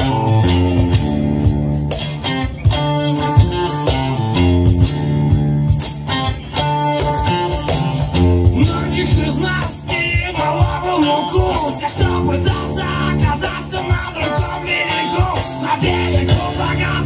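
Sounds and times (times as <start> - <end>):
electric guitar: 0.0 - 17.0
sharp percussive hits: 0.0 - 17.0
strummed acoustic guitar: 0.0 - 17.0.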